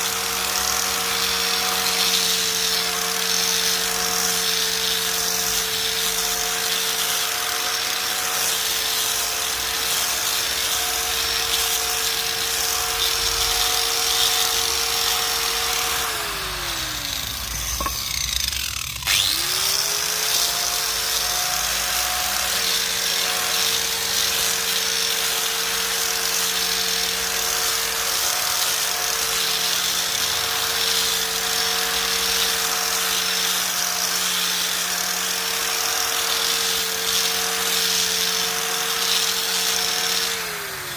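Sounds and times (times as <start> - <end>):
small motor whining: 0.0 - 40.9.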